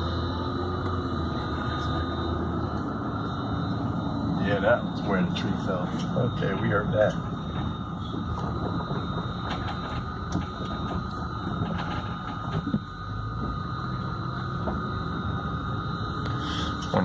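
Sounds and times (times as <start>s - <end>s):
car engine and road noise: 0.0s - 17.0s
faint steady whine: 0.0s - 17.0s.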